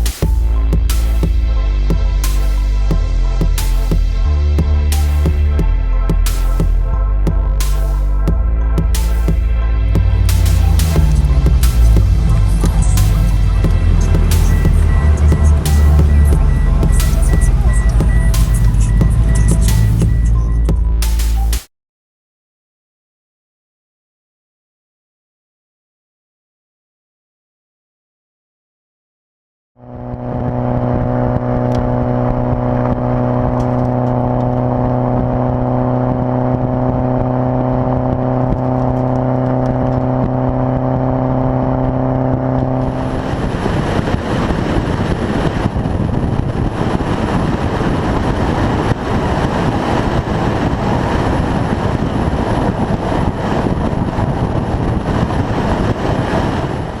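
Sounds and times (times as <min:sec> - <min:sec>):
car engine exhaust drone: 0:00.0 - 0:21.6, 0:29.8 - 0:57.0.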